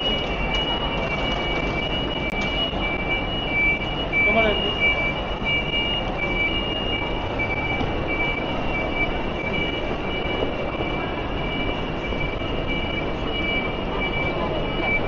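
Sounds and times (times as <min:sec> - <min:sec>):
high-pitched whine: 0:00.0 - 0:15.0
vehicle running: 0:00.0 - 0:15.0.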